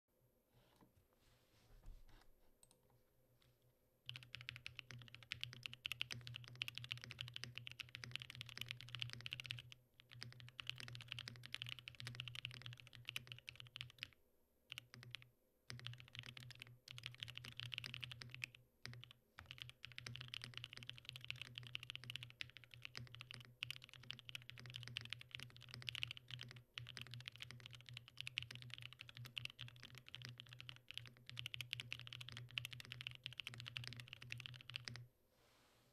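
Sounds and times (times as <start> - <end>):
mechanical keyboard typing: 4.1 - 35.0.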